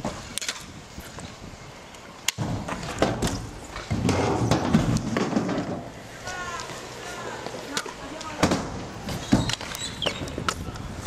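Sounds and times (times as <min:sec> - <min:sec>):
scooter wheels rolling on concrete: 0:00.0 - 0:11.0.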